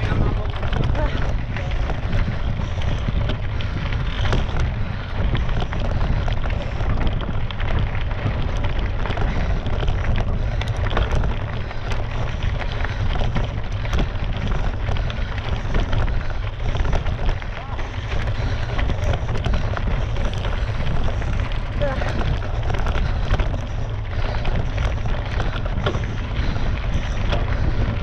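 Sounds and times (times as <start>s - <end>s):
bike tyres rattling on dirt track: 0.0s - 28.0s
wind buffeting microphone: 0.0s - 28.0s.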